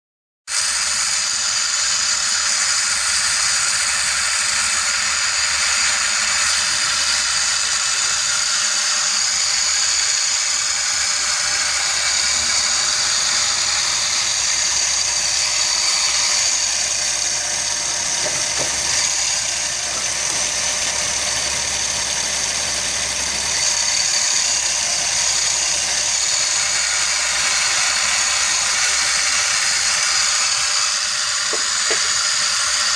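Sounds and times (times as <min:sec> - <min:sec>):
squealing grinding pulley whir: 0:00.5 - 0:32.9.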